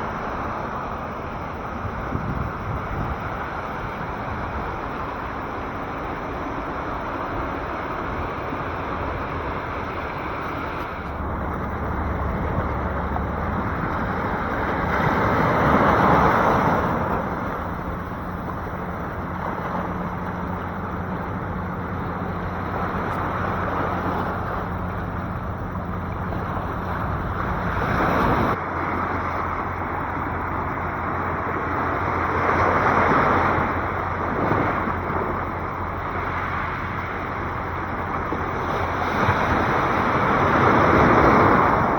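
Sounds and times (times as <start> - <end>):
sea waves washing in: 0.0 - 41.9.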